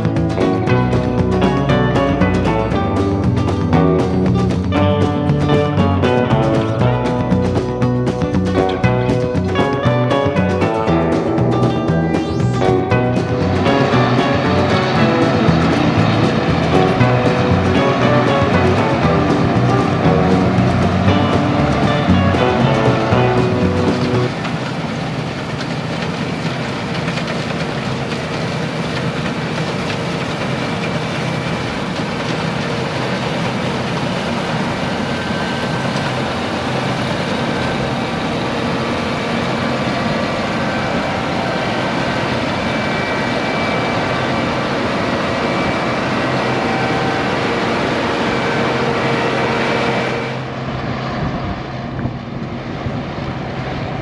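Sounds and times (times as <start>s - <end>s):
machinery engine droning: 0.0s - 54.0s.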